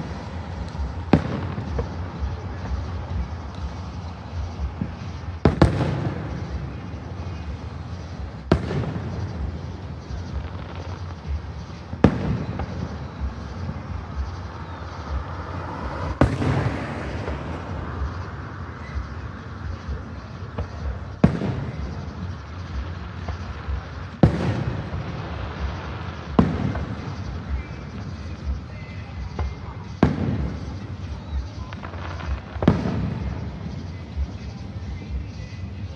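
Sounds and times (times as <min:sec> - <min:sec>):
fireworks bangs with echo: 0:00.0 - 0:35.9
steady background noise: 0:00.0 - 0:35.9.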